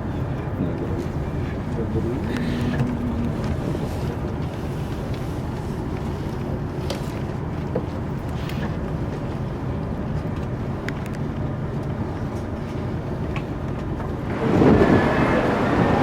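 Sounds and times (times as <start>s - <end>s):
high-speed train rumbling: 0.0s - 16.0s.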